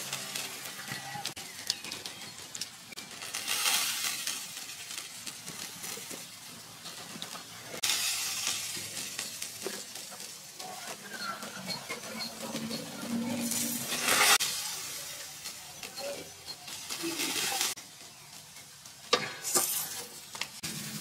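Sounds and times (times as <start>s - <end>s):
food sizzling on a grill: 0.0s - 21.0s.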